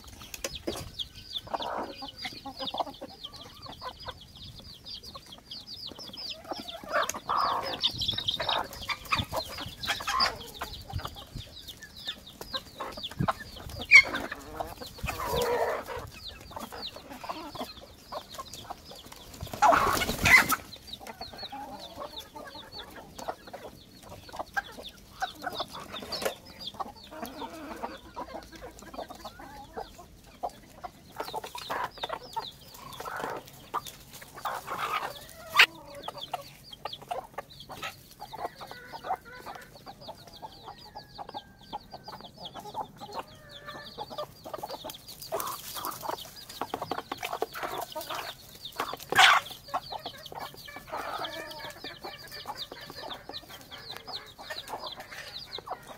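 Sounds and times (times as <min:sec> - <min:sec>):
chickens clucking: 0:00.0 - 0:55.9
chicks peeping: 0:00.0 - 0:55.9.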